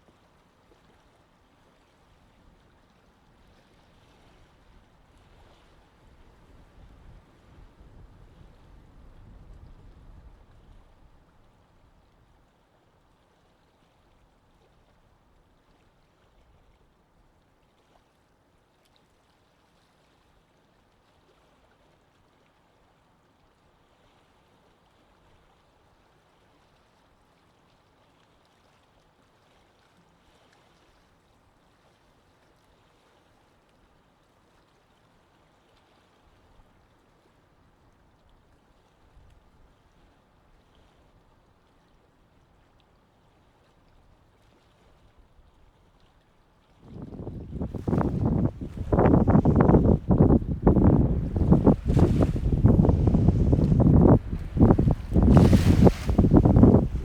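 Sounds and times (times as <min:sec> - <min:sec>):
faint wash of water: 0:00.0 - 0:57.0.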